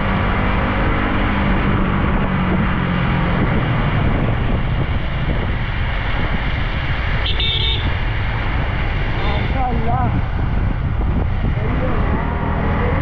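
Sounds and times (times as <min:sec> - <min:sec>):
motorcycle engine rumble: 0:00.0 - 0:13.0
wind rush on microphone: 0:00.0 - 0:13.0.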